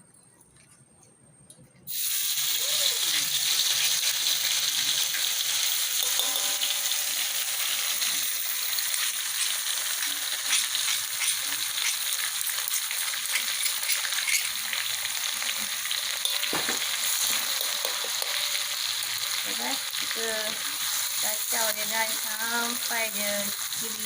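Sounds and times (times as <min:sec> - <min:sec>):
chili paste sizzling in oil: 0:01.8 - 0:24.0
oil crackling: 0:01.9 - 0:24.0.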